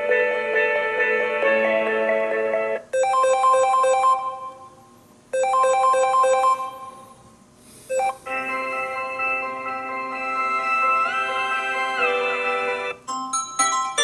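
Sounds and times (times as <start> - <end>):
phone ringtone melody: 0.0 - 4.8, 5.4 - 7.1, 7.9 - 14.0
repeated chiming ringtone notes: 0.0 - 4.8, 5.4 - 7.1, 7.9 - 14.0.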